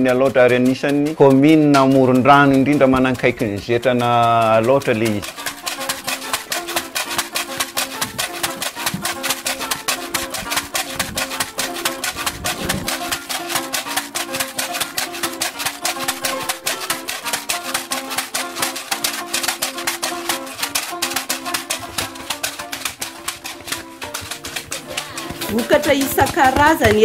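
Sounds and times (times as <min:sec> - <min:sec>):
shaker percussion beat: 0:00.0 - 0:27.0
simple repeating melody: 0:00.0 - 0:27.0.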